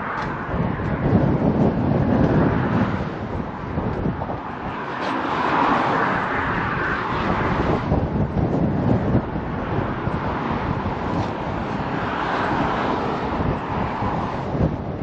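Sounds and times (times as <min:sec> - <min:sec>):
steady outdoor rumble: 0:00.0 - 0:15.0
wind buffeting microphone: 0:00.0 - 0:15.0.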